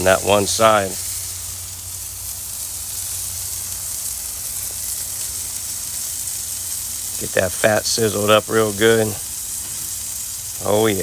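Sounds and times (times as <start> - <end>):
steak fat sizzling on grill: 0.0 - 11.0.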